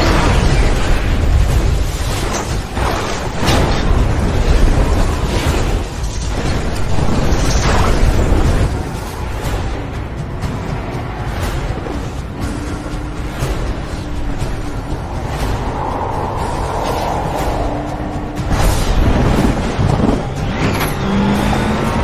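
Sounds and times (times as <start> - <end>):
deep rumble: 0.0 - 22.0.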